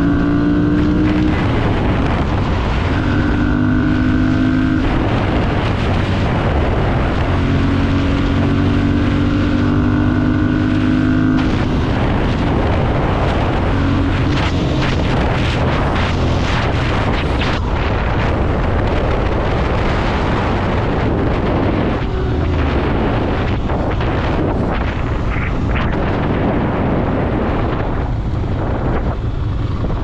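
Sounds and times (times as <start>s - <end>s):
motorcycle engine running: 0.0s - 30.0s
wind noise on microphone: 0.0s - 30.0s.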